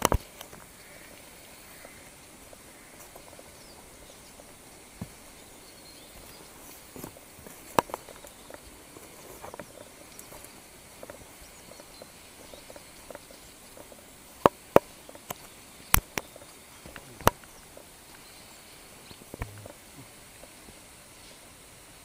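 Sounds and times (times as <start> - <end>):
footsteps on forest trail: 0.0 - 20.9
leaves brushing past: 0.0 - 21.7
faint outdoor background: 0.0 - 22.0.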